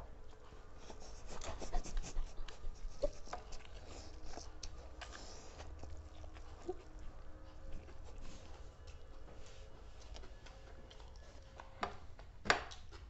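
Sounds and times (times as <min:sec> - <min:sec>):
noisy eating and chewing: 0:00.0 - 0:13.0.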